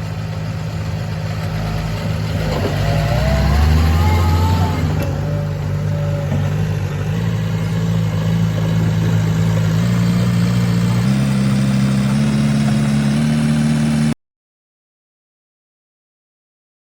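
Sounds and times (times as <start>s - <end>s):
diesel excavator engine running: 0.0s - 14.2s.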